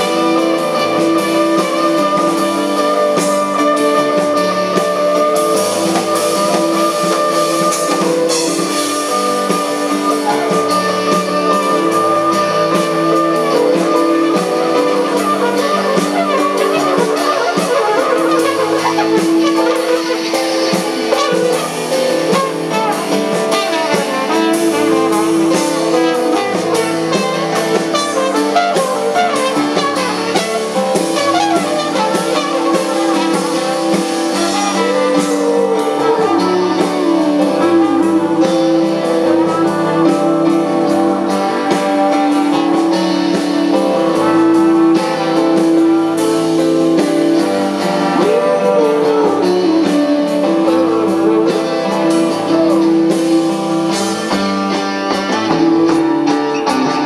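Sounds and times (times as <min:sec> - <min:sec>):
drums: 0:00.0 - 0:57.0
guitar: 0:00.0 - 0:57.0.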